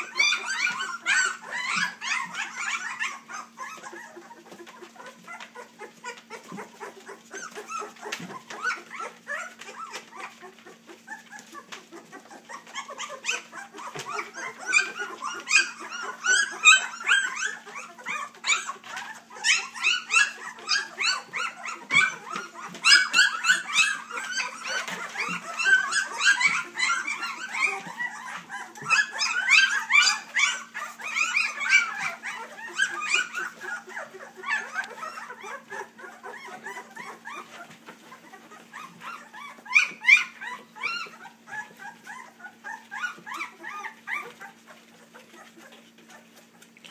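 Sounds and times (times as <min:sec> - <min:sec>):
puppies whining and yipping: 0:00.0 - 0:46.9.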